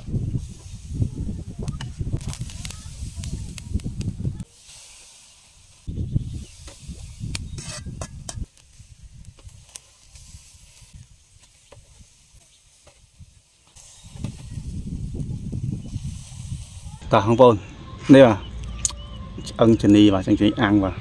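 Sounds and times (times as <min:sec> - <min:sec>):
ribs sizzling on a grill: 0:00.0 - 0:18.3.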